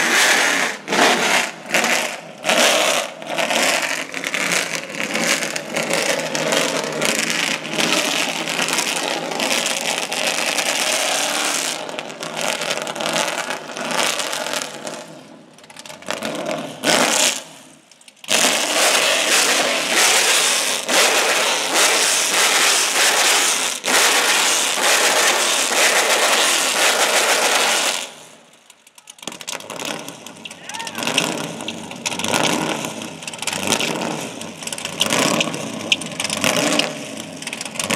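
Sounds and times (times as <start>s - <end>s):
car engine revving hard: 0.0s - 15.3s, 16.1s - 28.3s, 29.3s - 37.9s
exhaust crackling: 0.0s - 37.9s.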